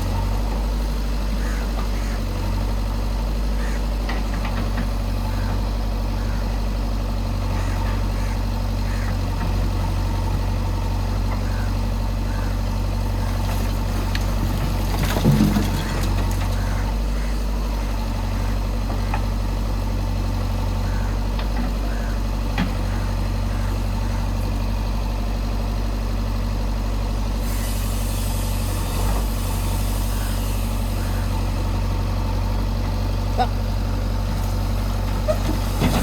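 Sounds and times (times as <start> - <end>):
diesel engine idling: 0.0 - 36.0
engine clatter: 0.0 - 36.0.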